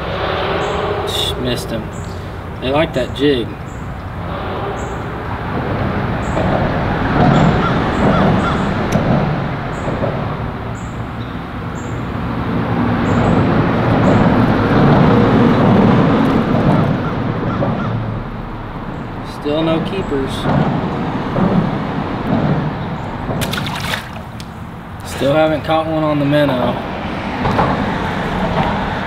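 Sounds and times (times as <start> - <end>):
traffic rumbling over bridge: 0.0 - 29.0.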